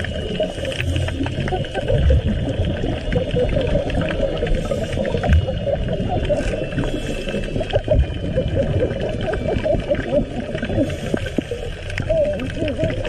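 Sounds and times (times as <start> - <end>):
low underwater rumble: 0.0 - 13.0
underwater crackling hiss: 0.0 - 13.0.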